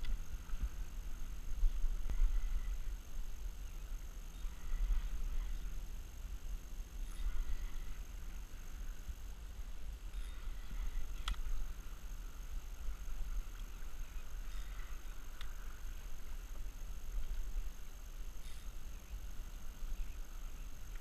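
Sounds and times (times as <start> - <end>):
wind buffeting microphone: 0.0 - 21.0
water lapping against hull: 3.7 - 21.0.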